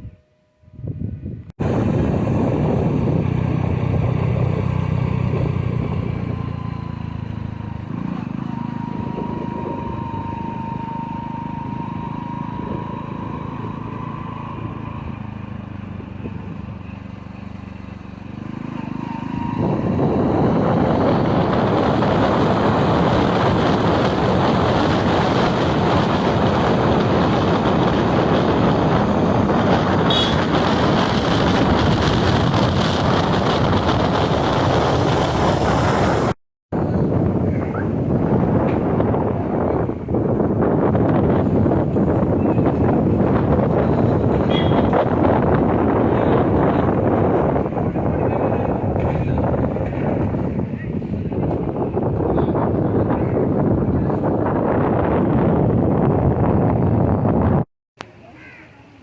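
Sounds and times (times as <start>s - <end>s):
vehicle engine running: 1.6s - 55.6s.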